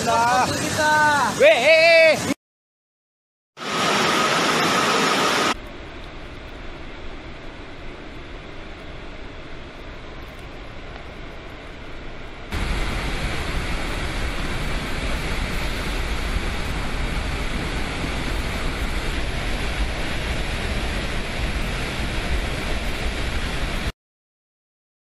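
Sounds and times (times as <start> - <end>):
water rushing: 3.6 - 23.9.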